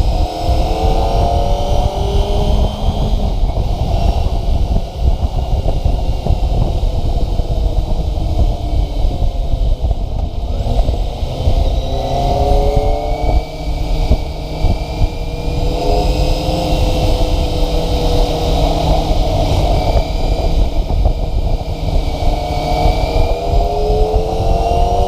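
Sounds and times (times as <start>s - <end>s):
motorcycle engine accelerating: 0.0s - 25.0s
wind rumble on microphone: 0.0s - 25.0s.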